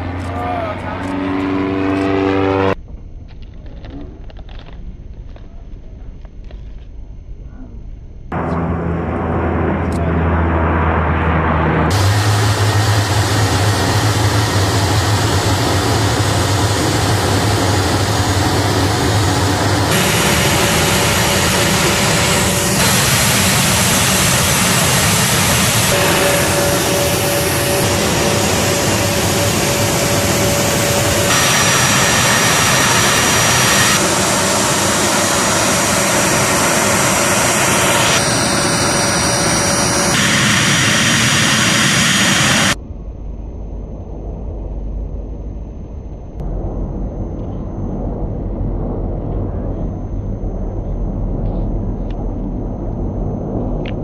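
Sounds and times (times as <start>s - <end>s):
jet engine noise: 0.0s - 3.2s, 8.3s - 54.0s.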